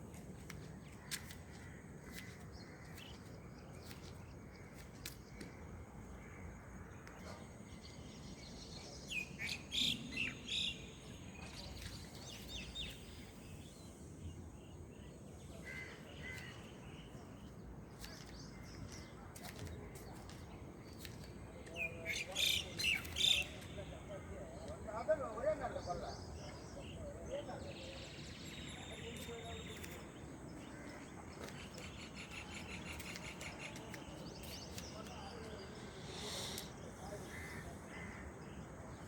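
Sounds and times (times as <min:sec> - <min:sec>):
birds chirping: 0:07.1 - 0:39.0.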